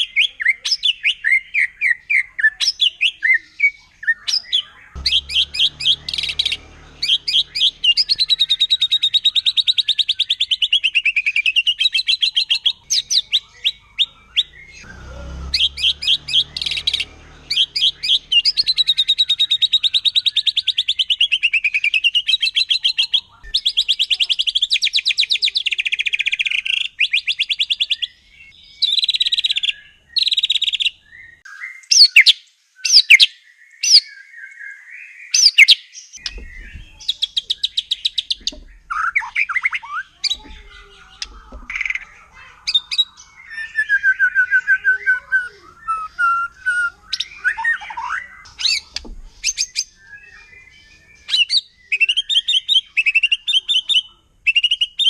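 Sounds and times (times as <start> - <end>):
bird singing rattling trills: 0.8 - 32.3, 35.4 - 55.0.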